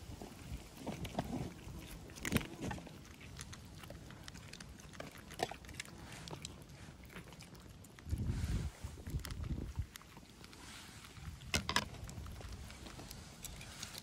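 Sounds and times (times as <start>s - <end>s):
cats crunching food: 0.0s - 14.0s.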